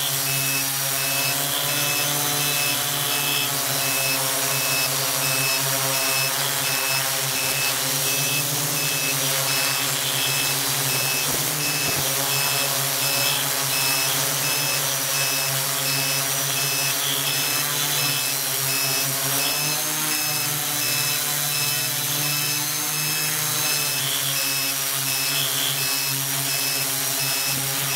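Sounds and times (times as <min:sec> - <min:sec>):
drone propellers humming: 0:00.0 - 0:27.9.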